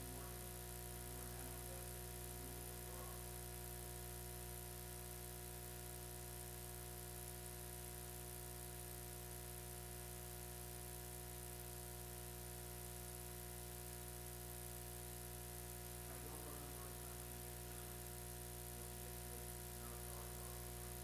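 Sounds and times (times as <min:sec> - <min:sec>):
electrical hum and buzz: 0:00.0 - 0:21.0.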